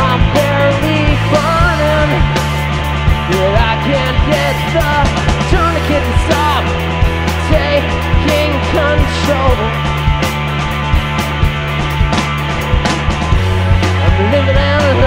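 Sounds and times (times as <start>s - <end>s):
drum hits: 0.0s - 15.0s
electric guitar: 0.0s - 15.0s
sustained bass line: 0.0s - 15.0s.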